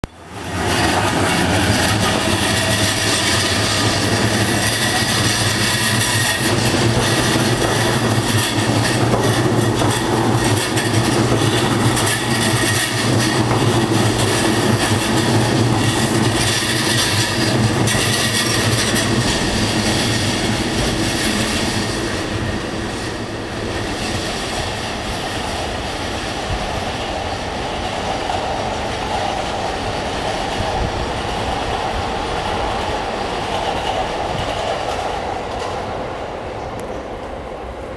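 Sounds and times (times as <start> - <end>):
electric train passing: 0.1 - 37.9
wheels clacking over rail joints: 0.2 - 36.0.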